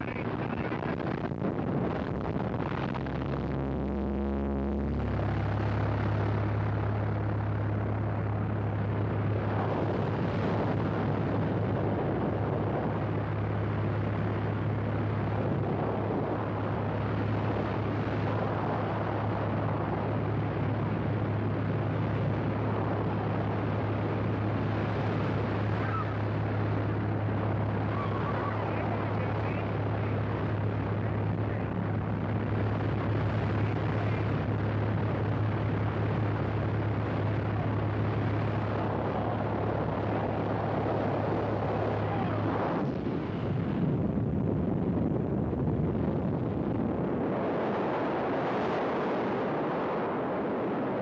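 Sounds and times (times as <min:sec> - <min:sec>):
propeller plane engine droning: 0:00.0 - 0:51.0.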